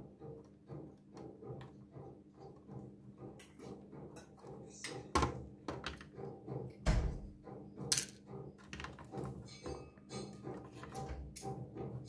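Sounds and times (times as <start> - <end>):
laptop parts knocking and clicking: 0.1 - 12.0.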